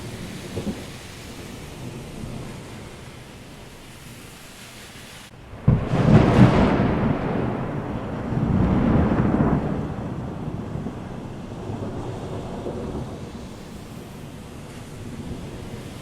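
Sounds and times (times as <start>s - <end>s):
thunder cracking and rumbling: 0.0s - 2.9s, 5.4s - 16.0s.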